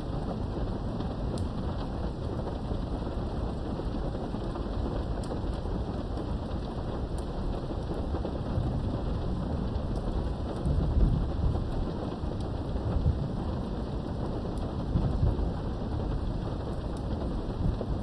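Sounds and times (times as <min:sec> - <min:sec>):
faint rain drop ticks: 0:00.0 - 0:18.0
low thunder rumble: 0:00.0 - 0:18.0
steady rain: 0:00.0 - 0:18.0.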